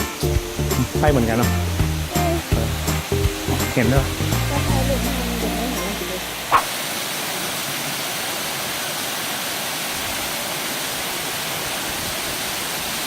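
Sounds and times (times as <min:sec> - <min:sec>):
water pouring down a waterfall: 0:00.0 - 0:13.0.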